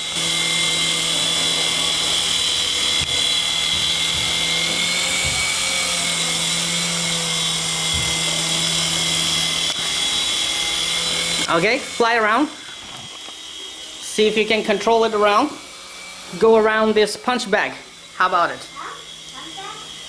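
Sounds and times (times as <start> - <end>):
toy helicopter motor whine: 0.0 - 20.0.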